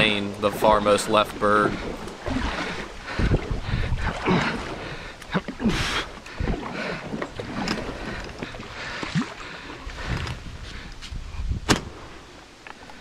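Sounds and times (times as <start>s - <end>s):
water splashing around hull: 0.0s - 10.9s
paddle strokes: 0.0s - 11.2s
wind on microphone: 0.0s - 12.4s.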